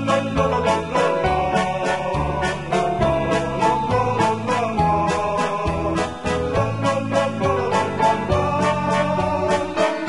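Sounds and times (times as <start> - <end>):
keyboard tune over a beat: 0.0 - 10.0.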